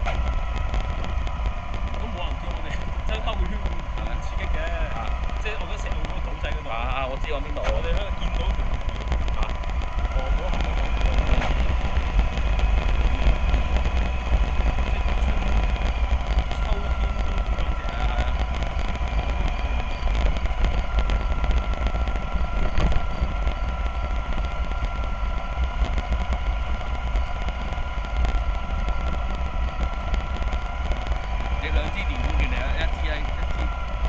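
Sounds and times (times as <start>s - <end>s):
electric motor whine: 0.0s - 34.0s
heavy low rumble: 0.0s - 34.0s.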